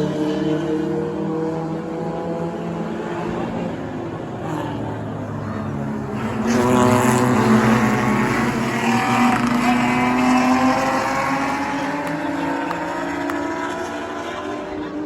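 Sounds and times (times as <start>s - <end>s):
race car engines running: 0.0s - 15.0s.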